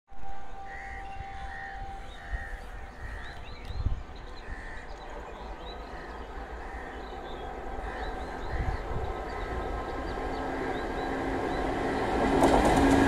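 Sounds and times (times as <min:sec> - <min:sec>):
birds calling: 0:00.6 - 0:13.0.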